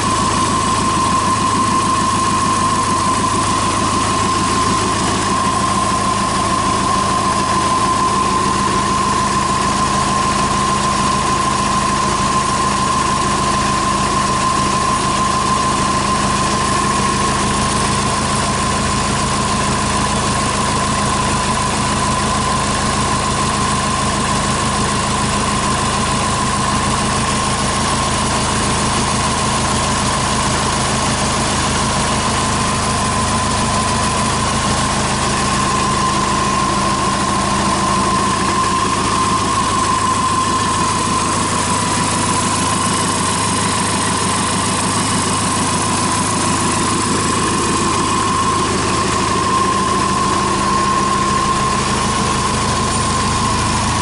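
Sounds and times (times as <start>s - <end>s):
diesel engine idling: 0.0s - 54.0s
high whine: 0.0s - 54.0s.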